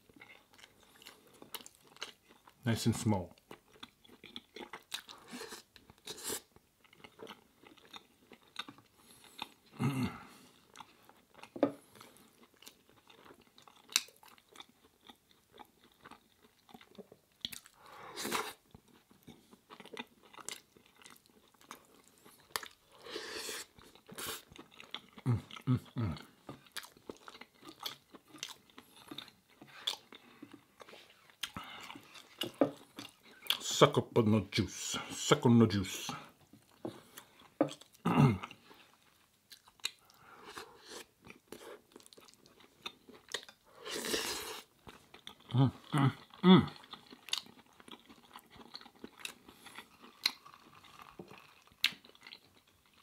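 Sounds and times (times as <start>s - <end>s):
chewing and biting bread: 0.0s - 2.6s, 3.3s - 23.0s, 23.6s - 33.6s, 36.4s - 53.0s.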